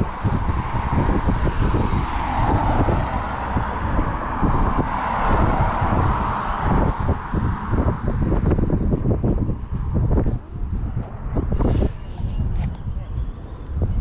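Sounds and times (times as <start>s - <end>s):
road traffic tyres rushing: 0.0s - 14.0s
wind buffeting microphone: 0.0s - 14.0s.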